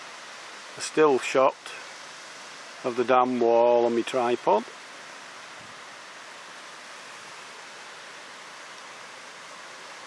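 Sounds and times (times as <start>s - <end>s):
outdoor ambient hiss: 0.0s - 10.0s.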